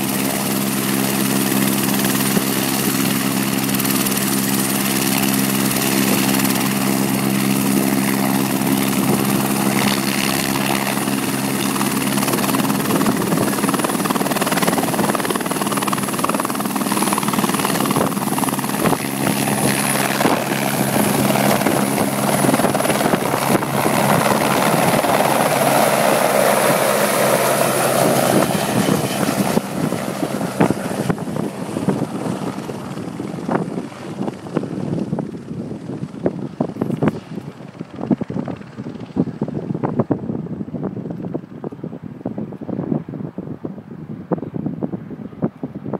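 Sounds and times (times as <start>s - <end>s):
helicopter rotor and engine: 0.0s - 45.9s.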